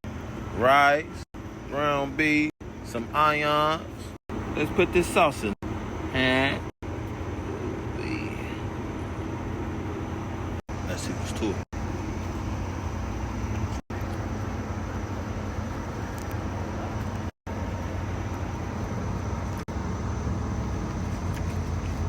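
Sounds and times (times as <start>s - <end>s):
vehicle rumble and hiss: 0.1s - 22.0s.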